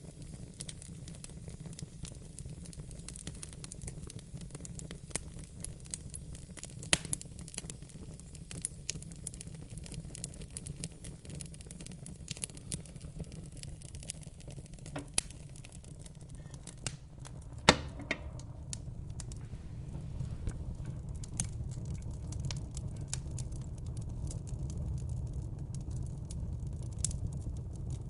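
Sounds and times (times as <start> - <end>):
fire crackling and snapping: 0.0 - 28.0
fire flames rumbling: 0.0 - 28.0.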